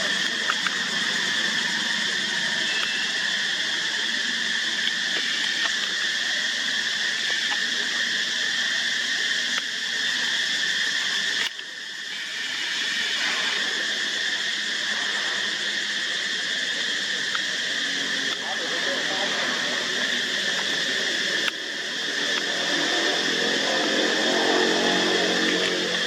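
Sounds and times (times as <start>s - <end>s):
high-pitched buzzing drone: 0.0s - 26.0s.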